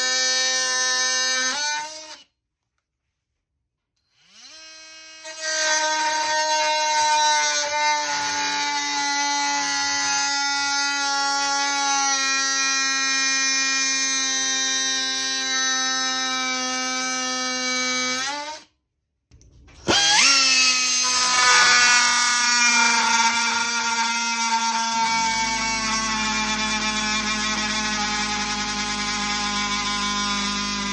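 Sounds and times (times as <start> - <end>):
oscillating multi-tool whining: 4.0 - 18.6, 19.8 - 30.9.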